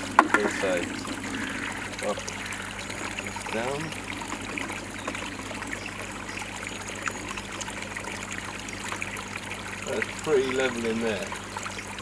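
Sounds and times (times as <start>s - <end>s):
low steady hum: 0.0s - 12.0s
water trickling and splashing: 0.0s - 12.0s.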